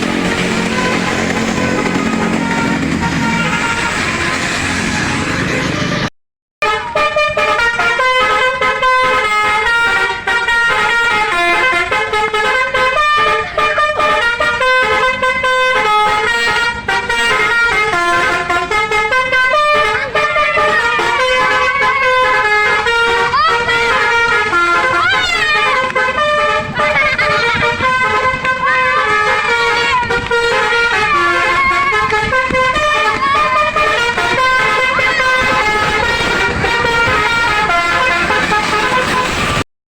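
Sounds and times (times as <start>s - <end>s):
musical air horn tune: 0.0s - 39.6s.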